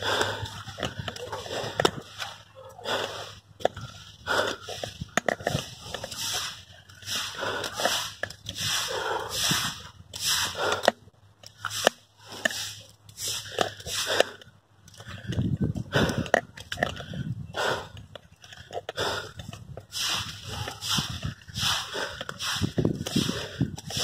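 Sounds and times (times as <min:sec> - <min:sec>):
person breathing hard: 0:00.0 - 0:11.1, 0:11.8 - 0:24.0.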